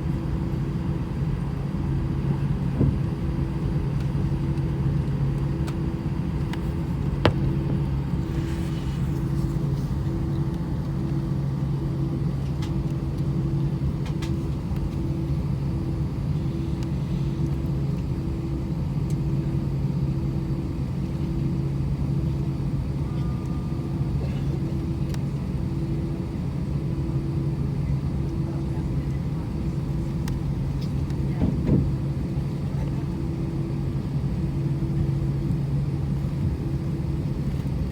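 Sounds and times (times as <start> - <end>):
aircraft cabin hum: 0.0 - 37.9.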